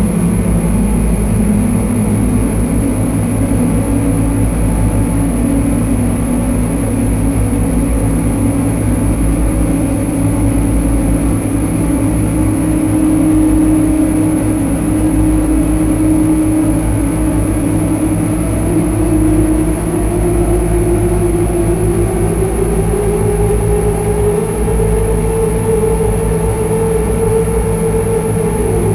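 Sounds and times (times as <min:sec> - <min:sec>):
synthesizer drone: 0:00.0 - 0:28.9.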